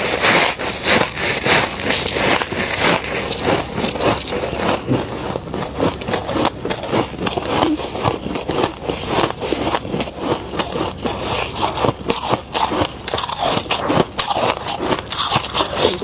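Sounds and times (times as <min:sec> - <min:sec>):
chewing icy frost: 0:00.0 - 0:16.0.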